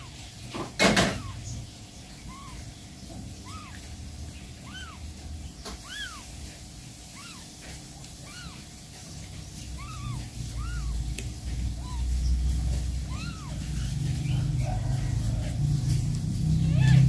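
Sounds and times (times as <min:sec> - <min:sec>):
kitten mewing: 0:00.0 - 0:14.4, 0:16.5 - 0:17.0.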